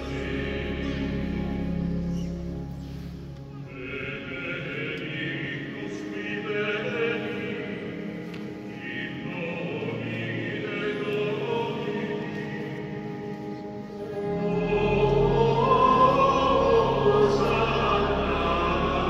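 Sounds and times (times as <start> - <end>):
choir singing a hymn: 0.0 - 2.4, 3.6 - 19.0.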